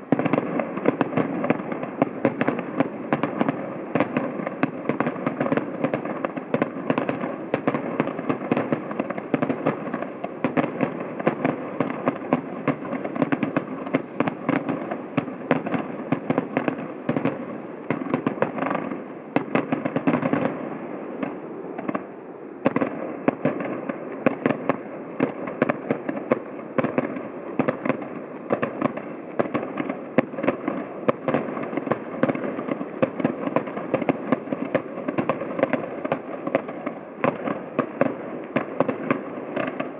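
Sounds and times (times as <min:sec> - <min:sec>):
distant fireworks bangs and crackles: 0:00.0 - 0:39.9.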